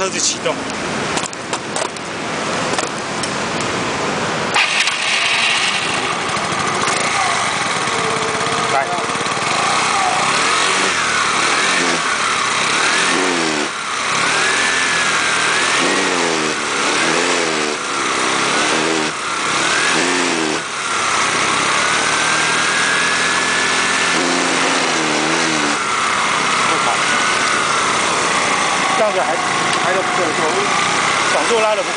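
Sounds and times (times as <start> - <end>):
motorcycle engine revving: 4.4 - 31.9.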